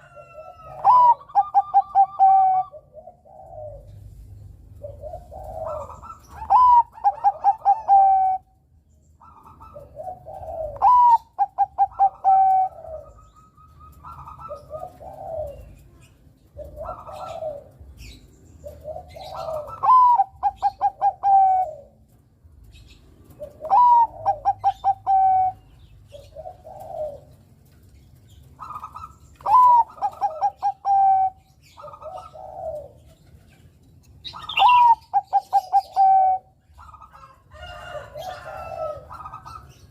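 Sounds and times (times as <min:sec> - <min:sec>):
dove cooing song: 0:00.0 - 0:39.9.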